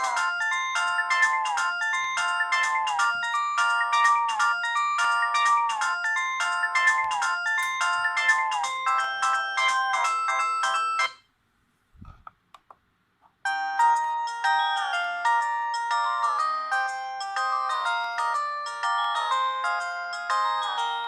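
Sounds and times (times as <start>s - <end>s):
synth ringtone chiming notes: 0.0s - 11.2s, 13.5s - 21.0s.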